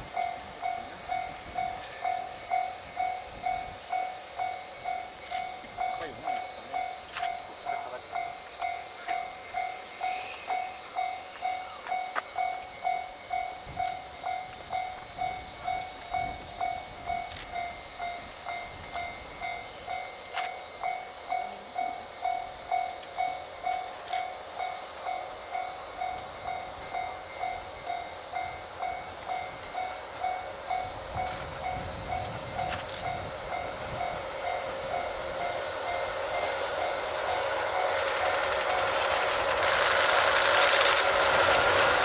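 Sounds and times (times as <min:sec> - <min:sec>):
level-crossing warning bell ringing: 0:00.0 - 0:42.0.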